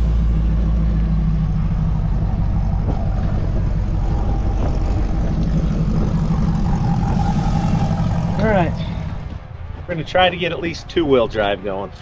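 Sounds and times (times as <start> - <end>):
car engine running at low revs: 0.0 - 10.2.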